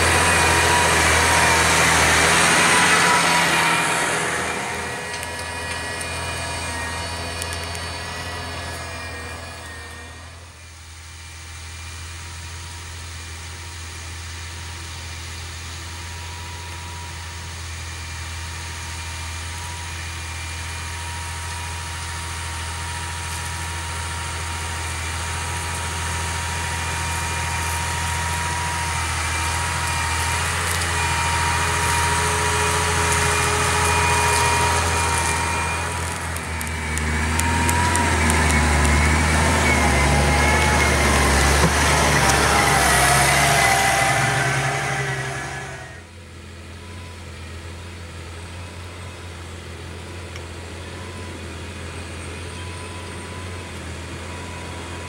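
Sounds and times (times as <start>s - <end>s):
tractor engine under load: 0.0s - 55.0s
tractor whine: 0.0s - 55.0s.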